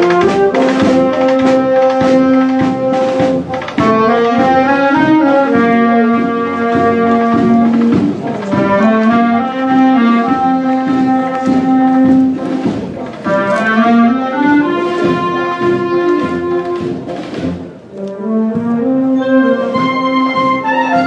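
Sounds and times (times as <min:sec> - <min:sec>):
wind band marching tune: 0:00.0 - 0:21.0.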